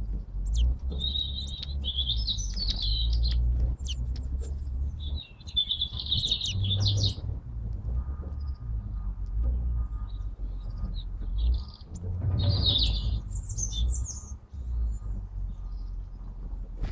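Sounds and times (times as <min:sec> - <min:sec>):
low rumble: 0:00.0 - 0:16.9
songbirds twittering: 0:00.0 - 0:16.9.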